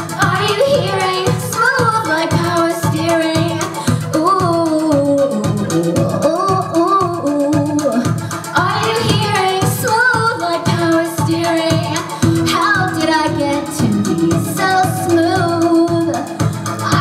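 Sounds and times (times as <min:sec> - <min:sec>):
pop backing music with beat: 0:00.0 - 0:17.0
woman singing into microphone: 0:00.2 - 0:17.0.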